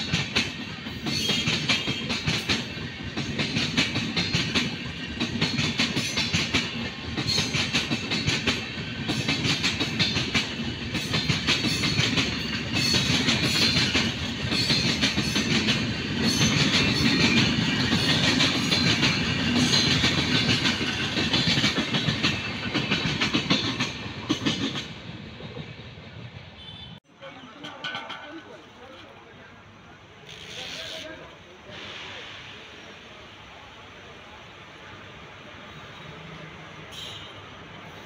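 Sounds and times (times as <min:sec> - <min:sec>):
train coaches rumbling past: 0:00.0 - 0:38.0.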